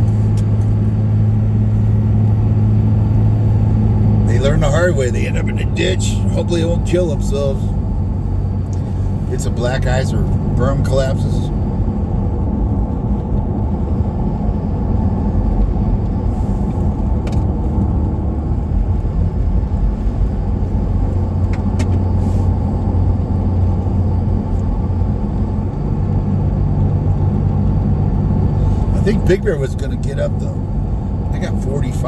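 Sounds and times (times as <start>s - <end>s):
truck engine and tyres droning: 0.0s - 32.0s.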